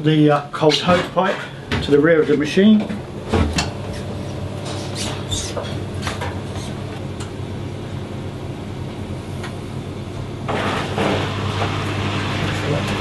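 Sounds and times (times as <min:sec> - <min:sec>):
low background hum: 0:00.0 - 0:11.2.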